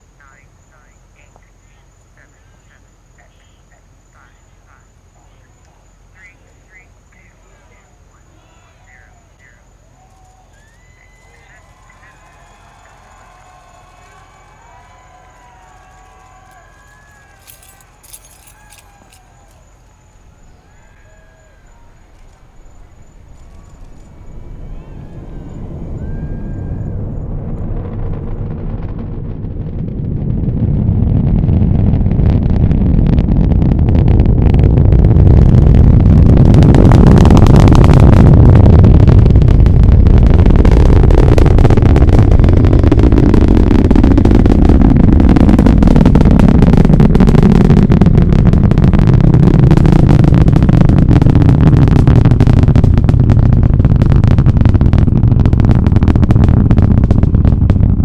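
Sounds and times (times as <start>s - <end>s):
rocket launch rumble with crackling: 0.0s - 58.0s.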